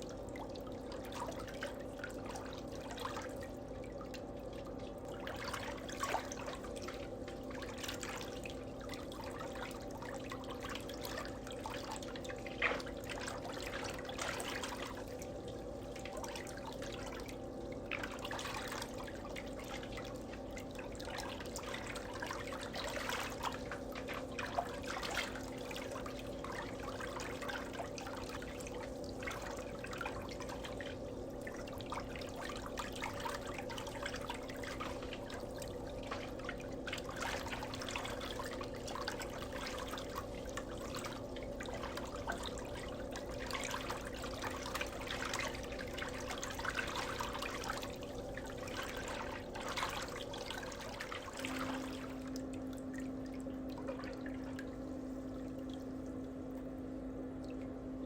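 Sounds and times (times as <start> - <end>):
steady low hum: 0.0 - 58.0
water trickling and splashing: 0.0 - 58.0.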